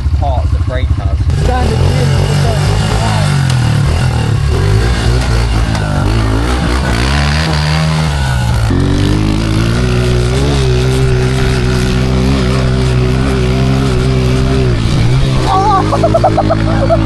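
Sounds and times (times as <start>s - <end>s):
pit bike engine running: 0.0s - 17.0s.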